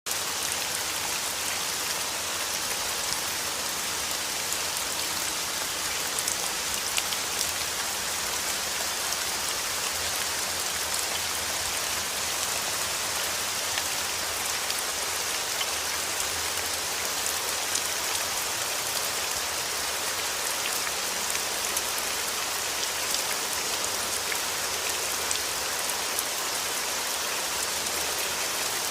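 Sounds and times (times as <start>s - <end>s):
rain pattering: 0.1s - 28.9s.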